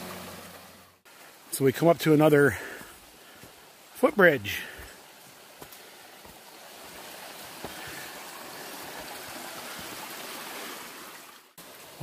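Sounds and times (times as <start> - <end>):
creek running over stones: 0.0 - 12.0.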